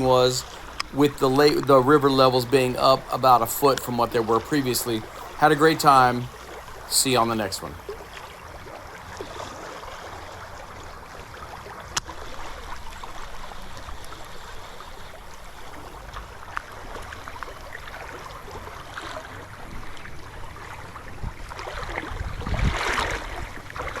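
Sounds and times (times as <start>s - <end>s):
river current flowing: 0.0s - 24.0s
rush of water: 0.0s - 24.0s.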